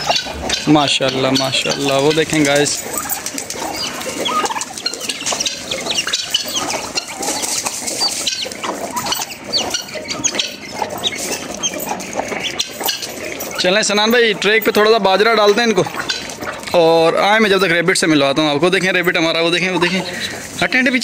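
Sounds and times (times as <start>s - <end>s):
birds calling and chirping: 0.0s - 21.0s.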